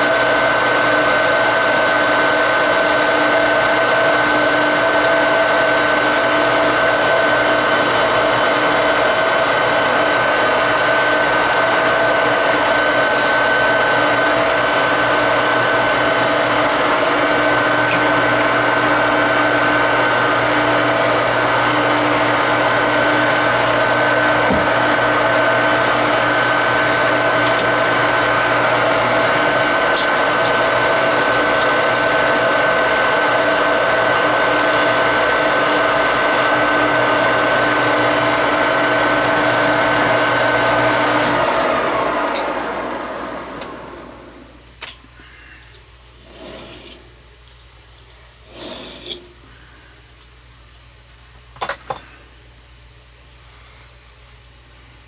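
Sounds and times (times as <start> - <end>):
metal lathe humming: 0.0 - 44.8.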